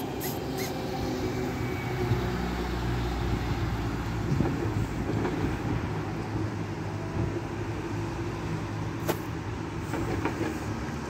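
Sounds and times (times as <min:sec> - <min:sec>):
city traffic: 0:00.0 - 0:11.0
wind: 0:00.0 - 0:11.0.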